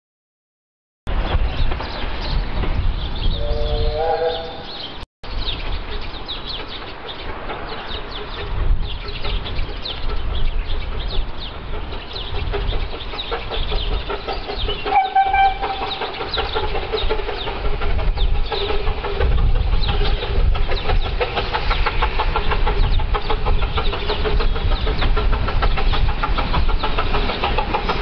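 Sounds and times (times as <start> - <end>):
birds chirping: 1.1 - 28.0
miniature train rumbling: 5.3 - 28.0.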